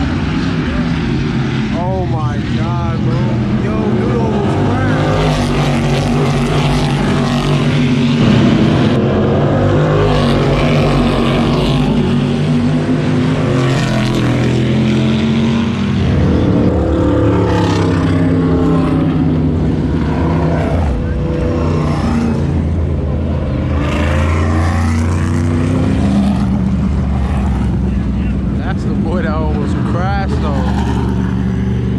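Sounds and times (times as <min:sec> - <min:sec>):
race car engines revving: 0:00.0 - 0:31.9.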